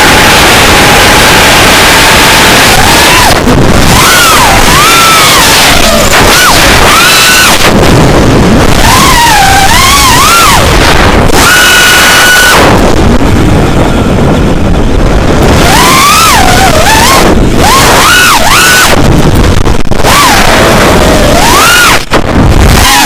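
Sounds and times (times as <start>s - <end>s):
wind noise on microphone: 0.0s - 23.0s.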